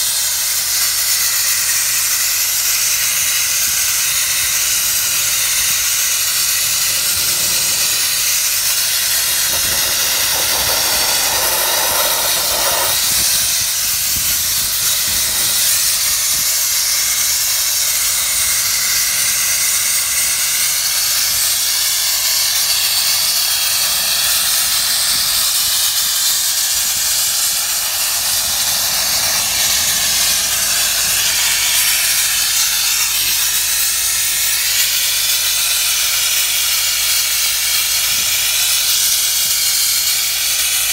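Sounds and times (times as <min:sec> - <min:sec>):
sandblasting hiss: 0:00.0 - 0:40.9.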